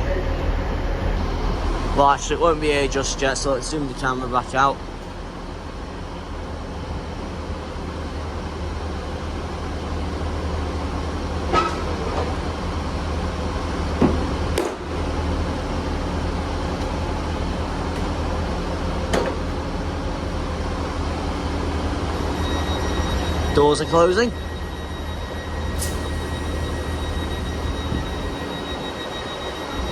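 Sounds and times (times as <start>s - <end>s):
diesel train engines idling: 0.0s - 29.9s.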